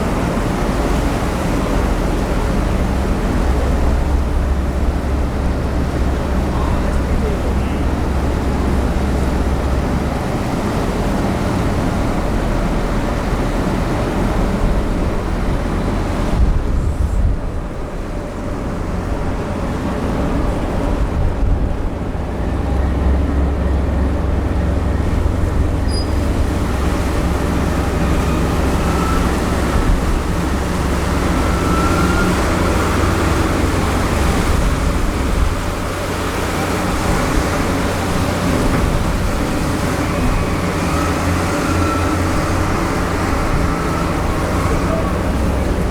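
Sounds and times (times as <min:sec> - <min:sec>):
ship engines droning: 0:00.0 - 0:45.9
water rushing: 0:00.0 - 0:45.9.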